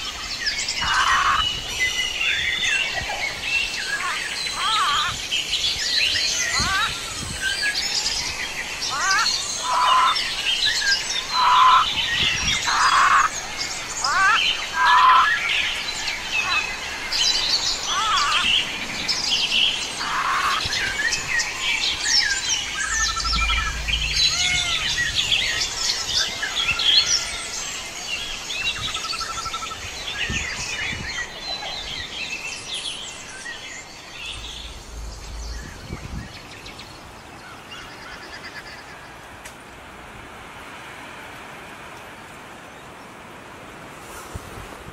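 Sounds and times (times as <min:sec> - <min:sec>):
forest birds chirping and singing: 0:00.0 - 0:39.8.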